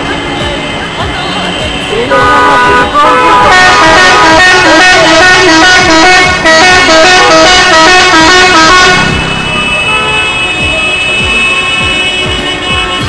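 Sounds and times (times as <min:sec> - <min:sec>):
traffic noise: 0:00.0 - 0:13.0
musical car horn playing a tune: 0:01.3 - 0:13.0.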